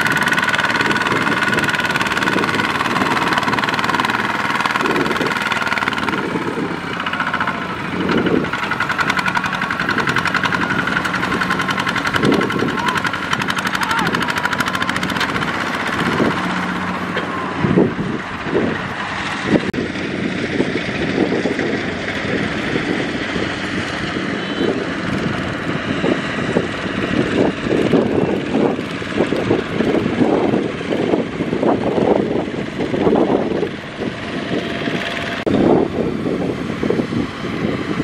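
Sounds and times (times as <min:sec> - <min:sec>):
diesel engine chugging: 0:00.0 - 0:38.0.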